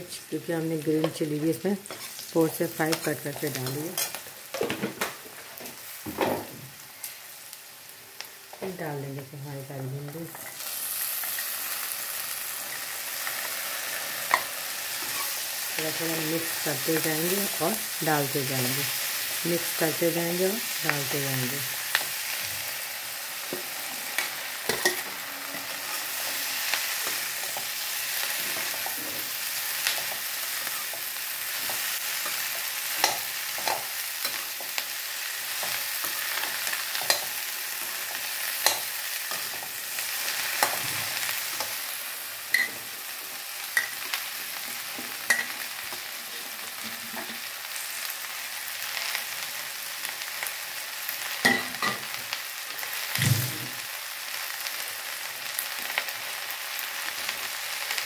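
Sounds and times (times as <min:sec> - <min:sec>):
okra sizzling in oil: 0:00.0 - 0:58.0.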